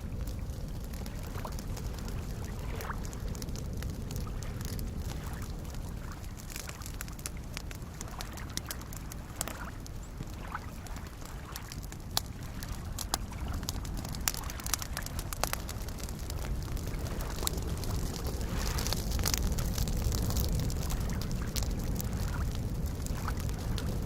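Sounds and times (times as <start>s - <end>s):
campfire crackling and popping: 0.0s - 24.0s
lake waves lapping: 0.2s - 23.8s.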